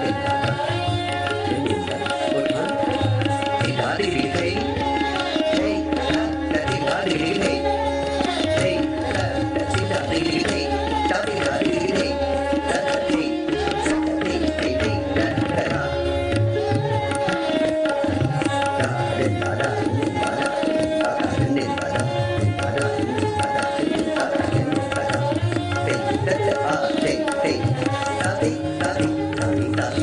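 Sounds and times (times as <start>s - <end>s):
tabla drumming: 0.0s - 30.0s.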